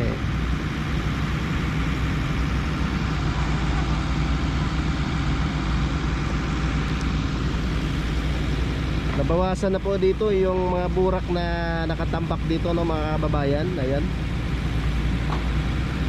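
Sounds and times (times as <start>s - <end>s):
heavy machinery engine humming: 0.0s - 16.0s.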